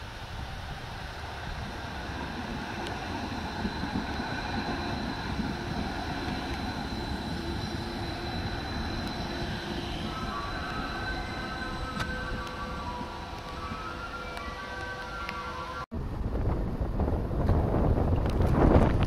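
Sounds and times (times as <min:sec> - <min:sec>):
high steady whine: 0:00.0 - 0:19.0
train wheels rumbling on rails: 0:00.0 - 0:19.0.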